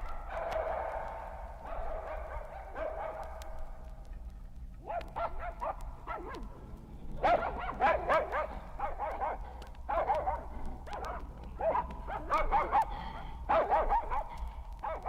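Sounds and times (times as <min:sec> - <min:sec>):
dogs barking and yelping: 0:00.0 - 0:15.0
vinyl record hum and clicks: 0:00.0 - 0:15.0.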